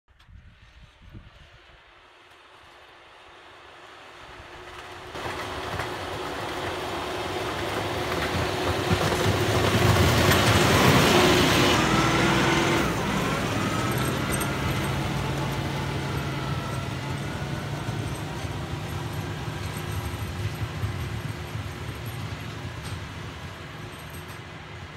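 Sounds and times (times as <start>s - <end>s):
diesel tractor with snowblower: 0.3s - 24.9s.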